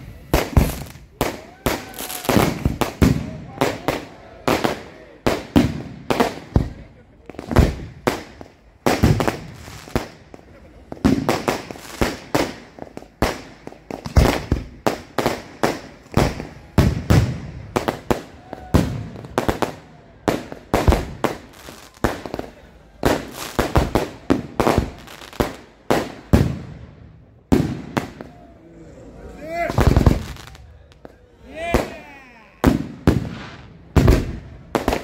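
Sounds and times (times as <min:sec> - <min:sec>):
fireworks bangs: 0:00.0 - 0:28.5, 0:29.4 - 0:35.0.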